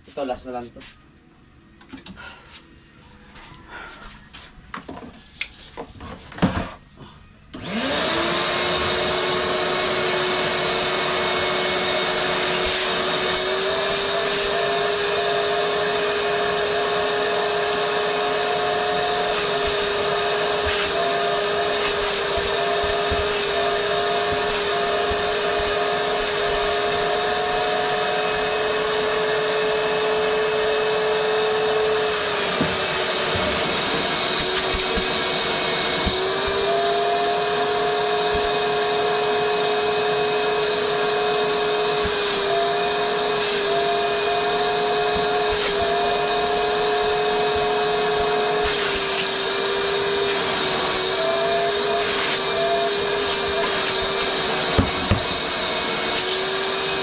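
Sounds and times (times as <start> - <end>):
vacuum cleaner motor whine: 7.5 - 57.0.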